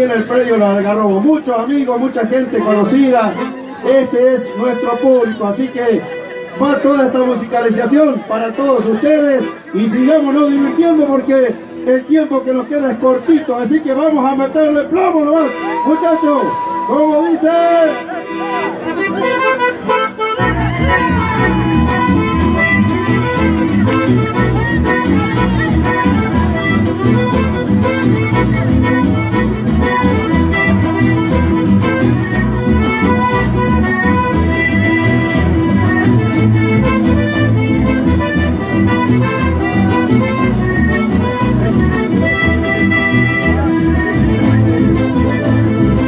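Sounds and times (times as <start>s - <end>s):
accordion: 0.0s - 46.0s
band playing folk music: 0.0s - 46.0s.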